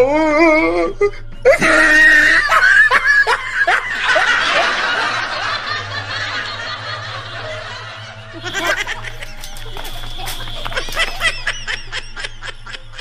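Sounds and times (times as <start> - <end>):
breathy laughter: 1.5 - 13.0.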